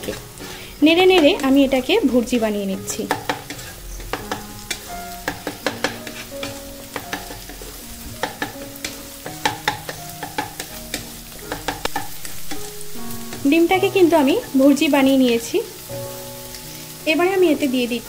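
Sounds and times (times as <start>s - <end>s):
spatula scraping and tapping wok: 0.0s - 15.6s
eggs and vegetables sizzling: 0.0s - 18.0s.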